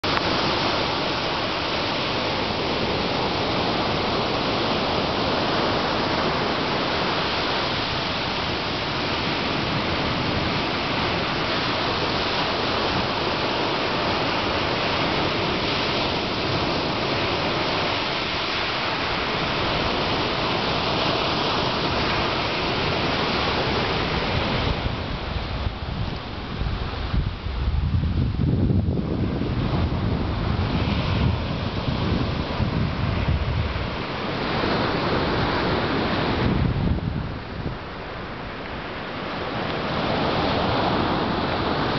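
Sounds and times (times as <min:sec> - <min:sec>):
ocean surf breaking: 0:00.0 - 0:41.9
wind buffeting microphone: 0:00.0 - 0:41.9.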